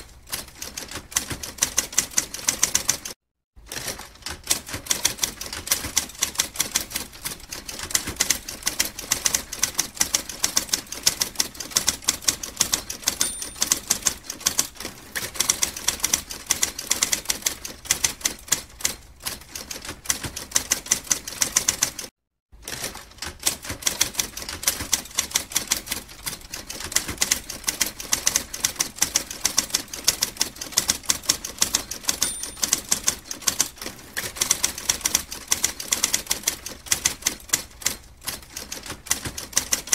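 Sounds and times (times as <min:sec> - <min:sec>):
typewriter keys clacking: 0:00.3 - 0:22.1, 0:22.7 - 0:39.9.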